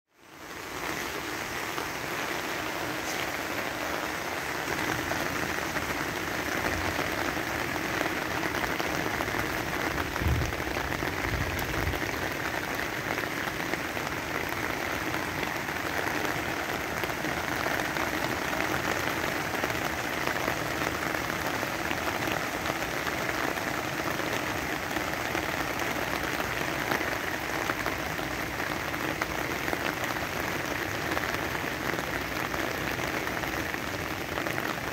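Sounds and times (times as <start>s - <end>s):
heavy rain on an umbrella: 0.1s - 34.9s.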